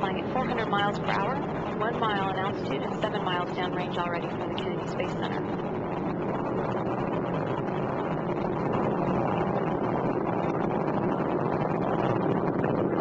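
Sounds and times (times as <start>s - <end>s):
rocket launch rumble: 0.0s - 13.0s.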